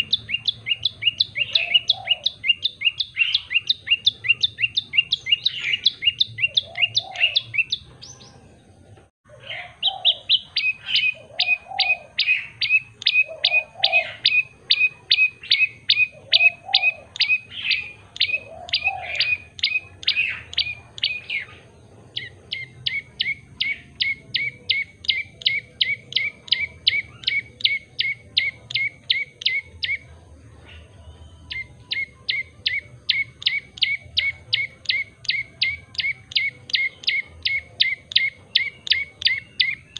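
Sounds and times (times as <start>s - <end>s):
bird singing rapid sharp chirps: 0.0s - 39.9s
lower bird calls: 0.0s - 39.9s.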